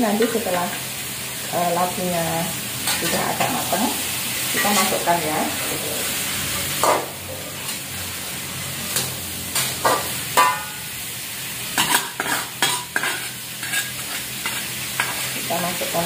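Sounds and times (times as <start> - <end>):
vegetables sizzling in a wok: 0.0 - 16.0
spatula scraping a wok: 2.6 - 15.6.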